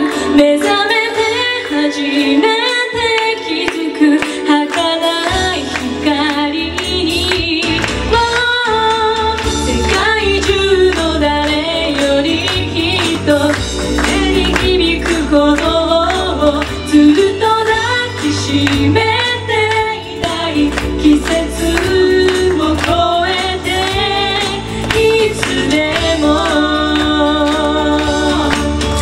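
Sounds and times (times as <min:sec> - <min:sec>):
woman singing: 0:00.0 - 0:29.0
bass line: 0:05.4 - 0:29.0.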